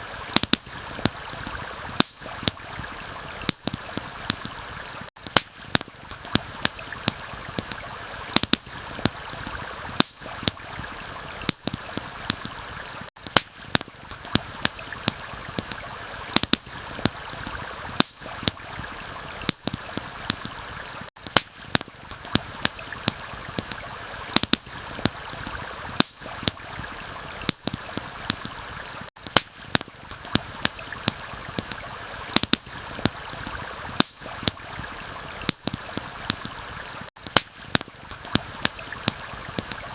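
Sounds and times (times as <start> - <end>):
campfire crackling and popping: 0.0 - 39.9
stream running: 0.0 - 39.9.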